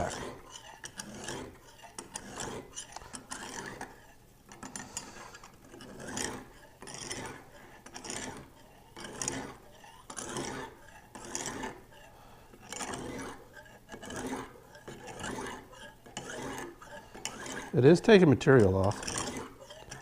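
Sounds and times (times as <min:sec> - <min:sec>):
honing stone scraping knife: 0:00.0 - 0:20.0.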